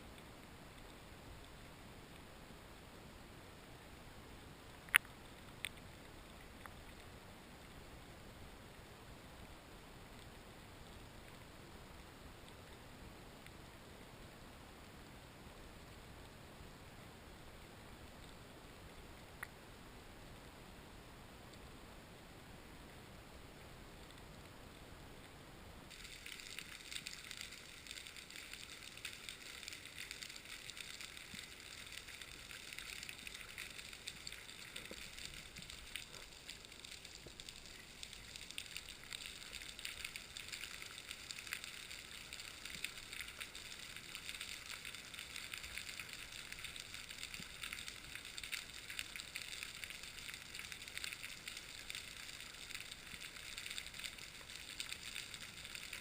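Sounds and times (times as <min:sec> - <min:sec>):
faint crackling water hiss: 0:00.0 - 0:56.0.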